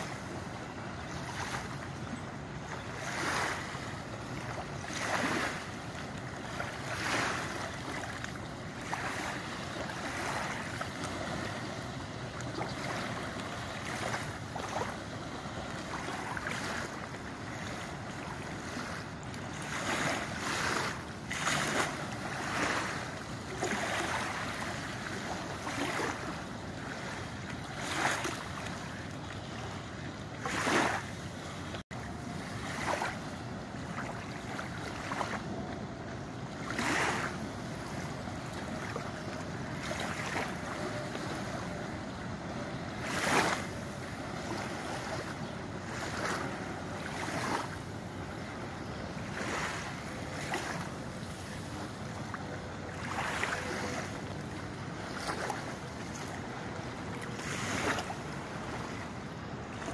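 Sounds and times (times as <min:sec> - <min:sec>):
waves lapping on gravel shore: 0:01.0 - 0:01.7, 0:02.8 - 0:29.8, 0:30.4 - 0:31.2, 0:32.4 - 0:33.2, 0:33.8 - 0:35.4, 0:36.6 - 0:39.0, 0:39.8 - 0:41.4, 0:43.0 - 0:48.2, 0:49.2 - 0:52.2, 0:52.8 - 0:56.3, 0:57.1 - 0:59.0.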